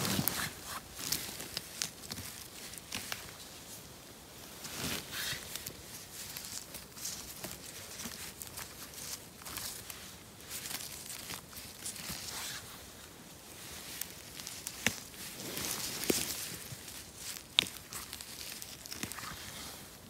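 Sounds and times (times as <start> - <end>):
twigs snapping: 0.0 - 3.4, 4.9 - 12.7, 13.4 - 19.6
gloved hand rustling through moss: 0.0 - 20.0.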